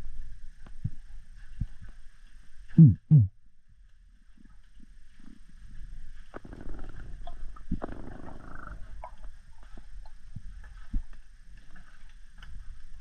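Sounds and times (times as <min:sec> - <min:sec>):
low underwater rumble: 0:00.0 - 0:13.0.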